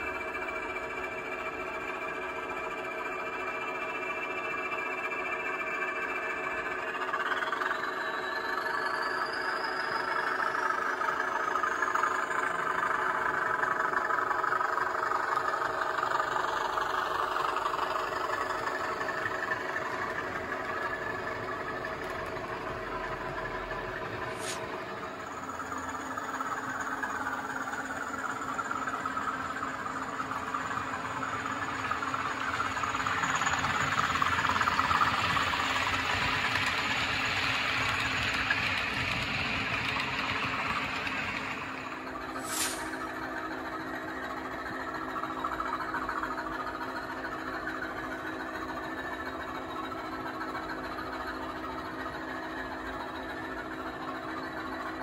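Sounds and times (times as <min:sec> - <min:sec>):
model diesel engine sound: 0:00.0 - 0:55.0
model wheels running on track: 0:00.0 - 0:55.0.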